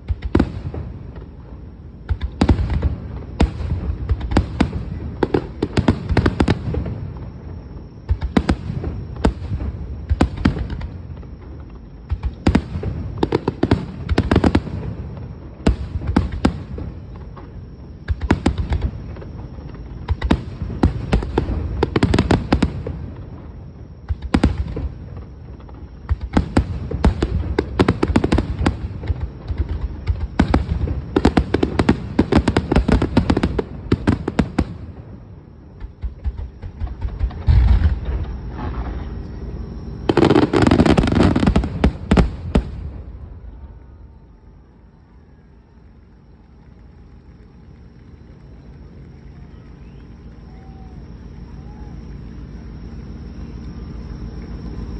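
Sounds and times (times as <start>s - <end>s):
crackling fireworks reports: 0.0s - 54.9s.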